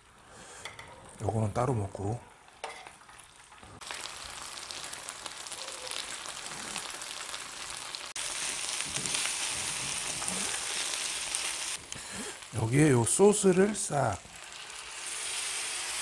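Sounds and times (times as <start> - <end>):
rice sizzling in a pan: 2.5 - 16.0.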